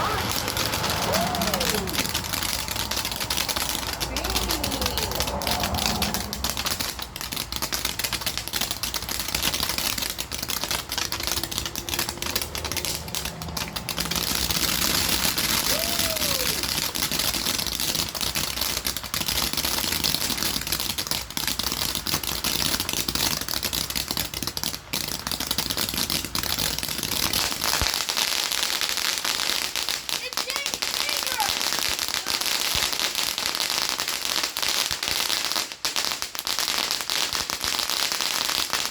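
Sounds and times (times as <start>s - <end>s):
firework crackling: 0.0s - 38.9s.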